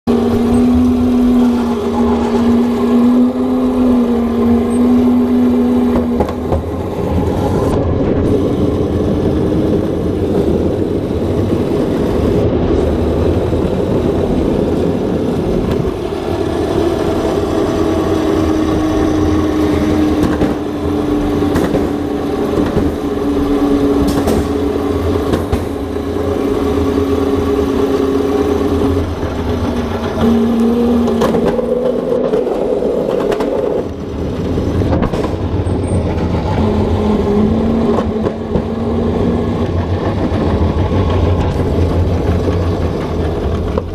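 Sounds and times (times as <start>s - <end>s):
wheels rumbling on floor: 0.0s - 43.9s
go-kart motor humming: 0.1s - 43.9s.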